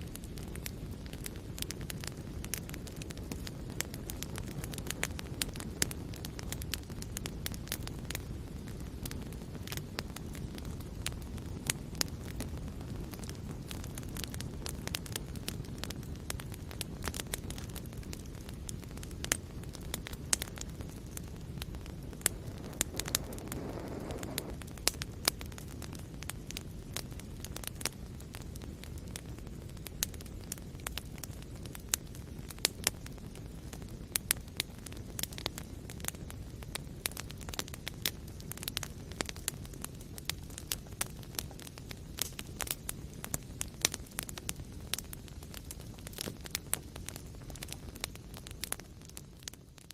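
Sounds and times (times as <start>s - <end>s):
soft whoosh of flame: 0.0s - 49.9s
wood fire crackling: 0.0s - 49.9s.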